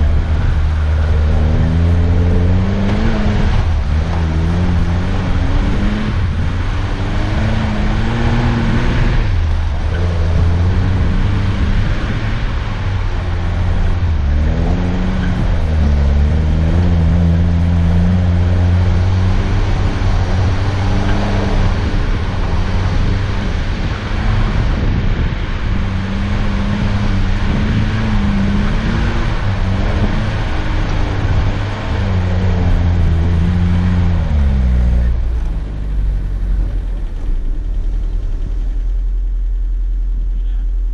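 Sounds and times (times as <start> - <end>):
off-road vehicle engine under load: 0.0 - 40.9.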